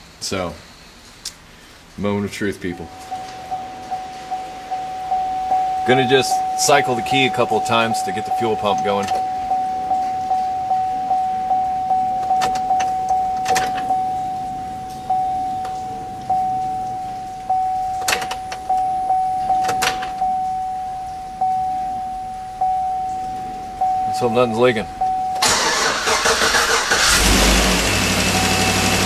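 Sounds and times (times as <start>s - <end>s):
car warning chime pinging: 2.6s - 29.0s.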